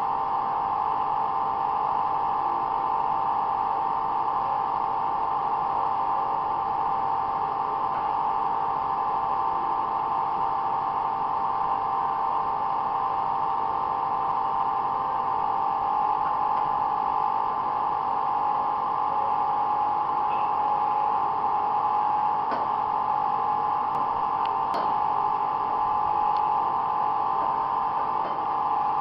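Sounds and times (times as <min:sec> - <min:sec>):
machine drone with whine: 0:00.0 - 0:29.0.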